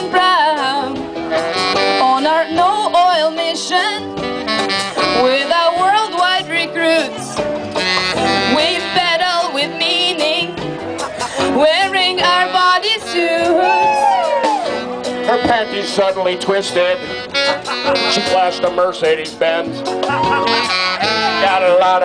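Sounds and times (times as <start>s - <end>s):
plucked string accompaniment: 0.0s - 22.0s.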